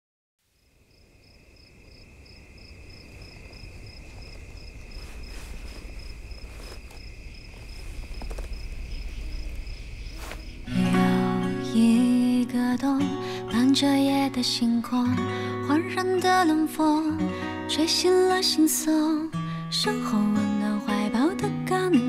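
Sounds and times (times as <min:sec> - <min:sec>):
crickets chirping: 0:00.4 - 0:21.4
high insect trill: 0:00.5 - 0:20.5.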